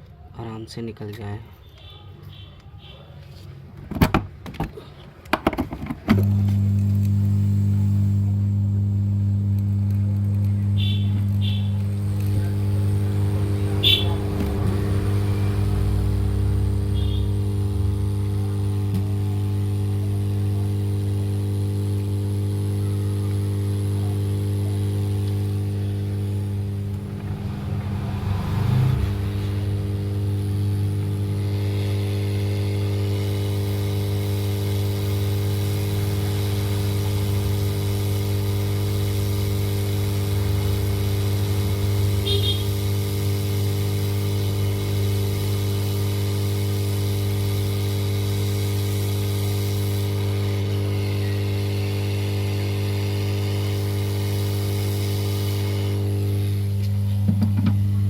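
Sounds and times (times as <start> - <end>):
soldering station electrical hum: 4.7 - 58.0.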